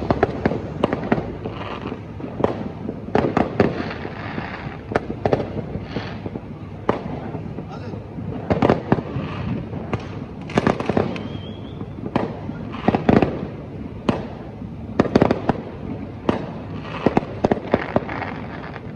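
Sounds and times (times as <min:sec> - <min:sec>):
distant fireworks rumble: 0:00.0 - 0:18.9
fireworks bangs and crackles: 0:00.0 - 0:18.9.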